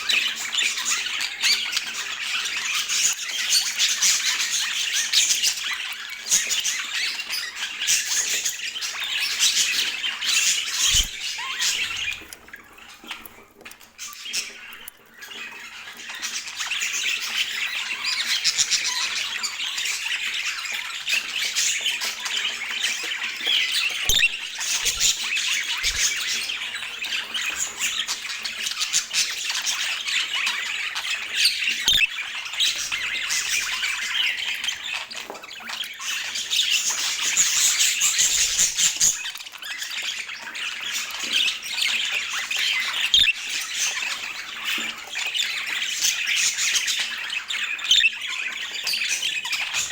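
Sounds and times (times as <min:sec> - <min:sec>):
budgerigars chattering: 0:00.0 - 0:13.3, 0:14.1 - 0:49.9.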